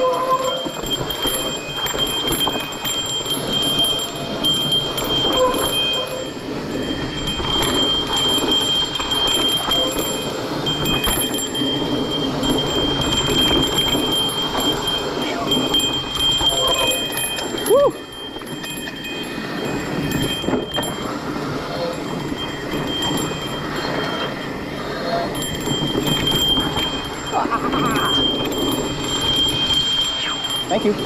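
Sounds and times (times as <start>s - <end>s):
bike rattling and ticking: 0.0s - 31.0s
thin high ringing tone: 0.0s - 31.0s.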